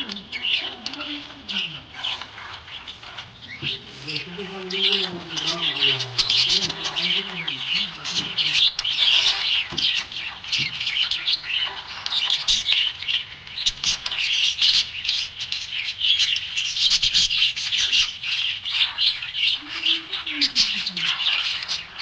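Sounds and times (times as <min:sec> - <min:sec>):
budgerigar chirping and warbling: 0:00.0 - 0:22.0.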